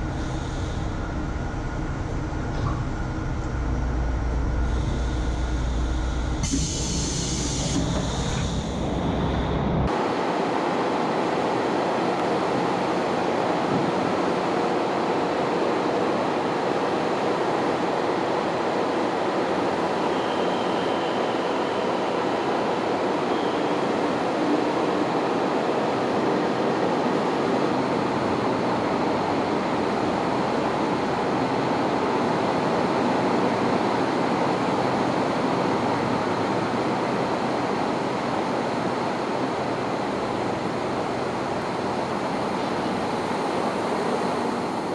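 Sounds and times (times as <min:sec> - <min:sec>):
diesel train engines idling: 0:00.0 - 0:09.9, 0:11.4 - 0:44.9.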